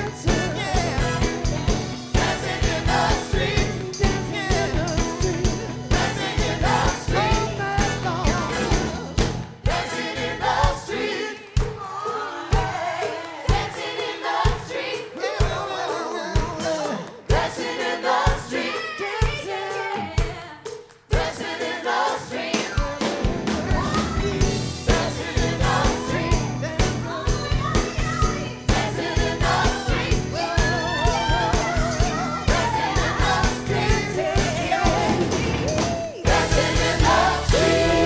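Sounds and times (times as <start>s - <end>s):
soul band with singers: 0.0s - 38.0s
steady drum beat: 0.0s - 38.0s.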